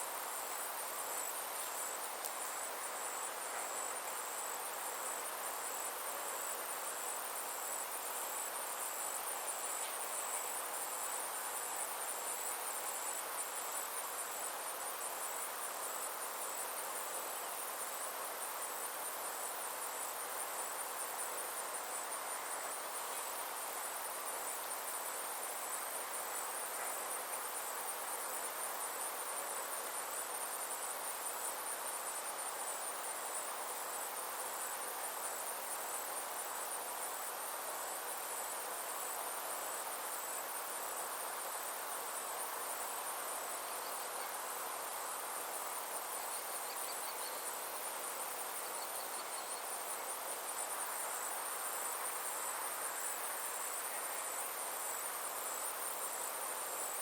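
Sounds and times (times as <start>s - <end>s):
insects trilling: 0.0s - 57.0s
soft background hiss: 0.0s - 57.0s.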